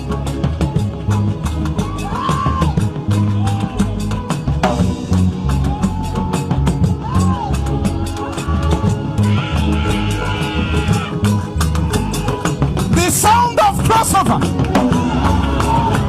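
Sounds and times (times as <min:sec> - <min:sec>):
bass line: 0:00.0 - 0:16.0
drum-kit beat: 0:00.0 - 0:16.0.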